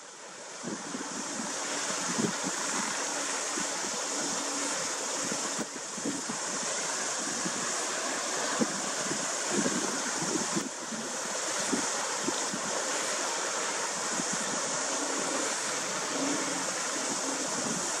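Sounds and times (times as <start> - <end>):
sea washing against rocky shore: 0.0 - 18.0
wind buffeting microphone: 0.6 - 18.0.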